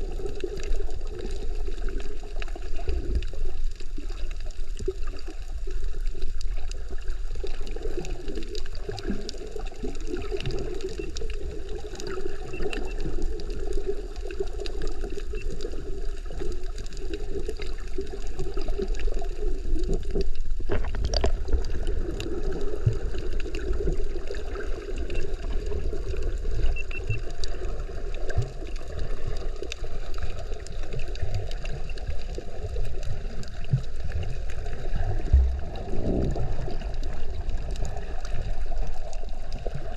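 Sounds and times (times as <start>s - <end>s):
muffled water gurgling and sloshing: 0.0s - 39.9s.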